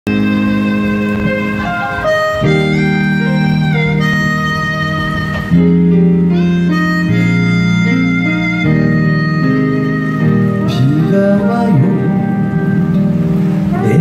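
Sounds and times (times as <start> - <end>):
slow ballad instrumental: 0.1 - 14.0.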